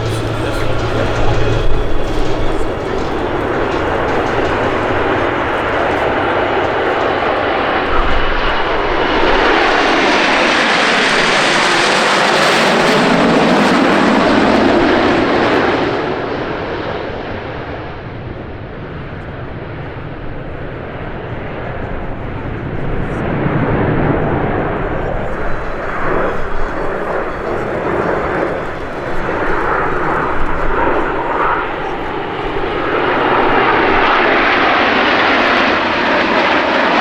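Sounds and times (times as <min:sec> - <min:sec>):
aircraft engines passing by: 0:00.0 - 0:37.0.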